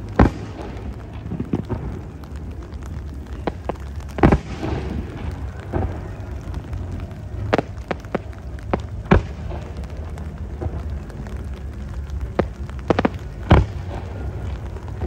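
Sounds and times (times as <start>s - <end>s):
fireworks bangs and pops: 0.0s - 15.0s
low rumble: 0.0s - 15.0s.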